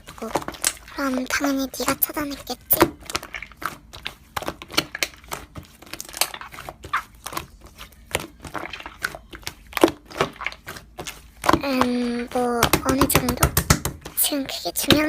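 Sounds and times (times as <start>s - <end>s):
slime squishing with crackles: 0.0s - 15.0s.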